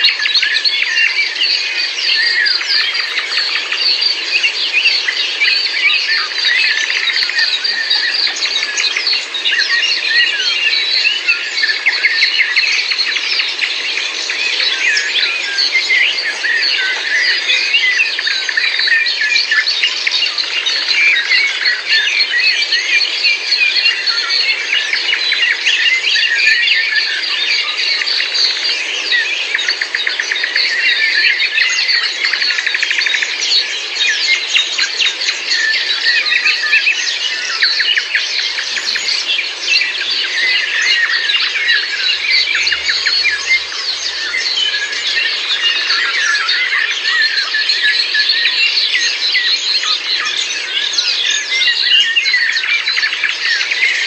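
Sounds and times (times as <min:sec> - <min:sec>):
birds chirping chorus: 0:00.0 - 0:54.0.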